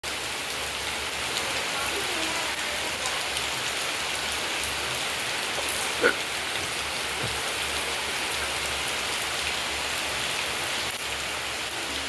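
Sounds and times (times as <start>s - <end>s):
raindrops ticking on surface: 0.0s - 12.0s
steady rain hiss: 0.0s - 12.0s.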